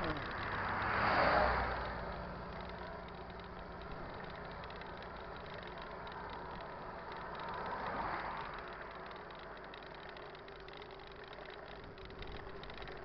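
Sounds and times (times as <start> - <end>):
truck engine and tyre hum: 0.0 - 13.0
vehicle passing close: 0.0 - 13.0.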